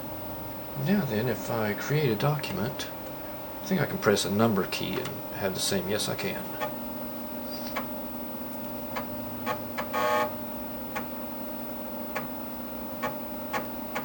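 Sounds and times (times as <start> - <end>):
computer hum: 0.0 - 14.0.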